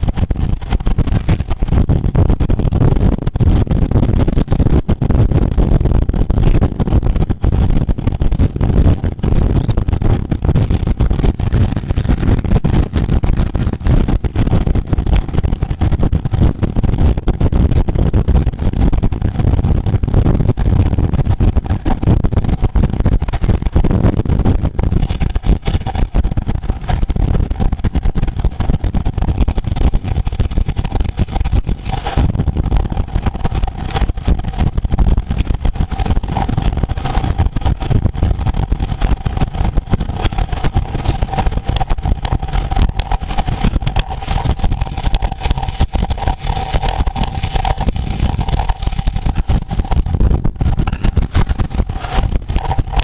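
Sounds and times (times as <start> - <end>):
faint steady hum: 0.0 - 53.0
wind buffeting microphone: 0.0 - 53.0.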